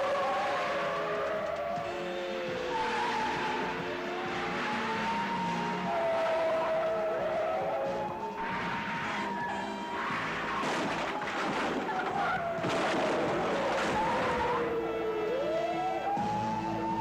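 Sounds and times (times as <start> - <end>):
car tyres screeching: 0.0 - 16.2
police siren wailing: 0.0 - 17.0.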